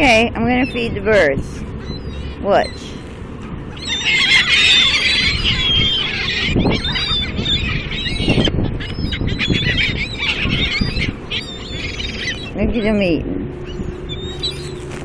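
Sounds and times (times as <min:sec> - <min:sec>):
seagulls calling and squawking: 0:00.0 - 0:15.0.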